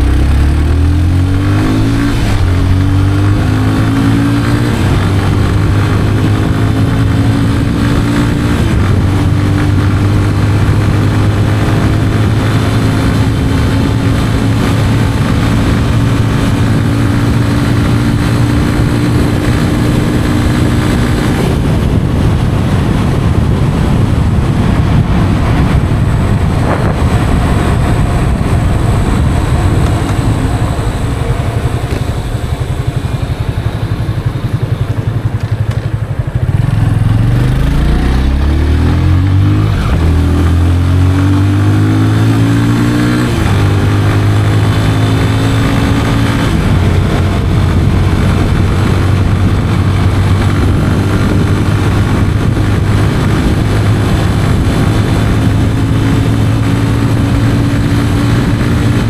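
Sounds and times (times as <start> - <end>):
motorcycle engine riding: 0.0 - 59.0.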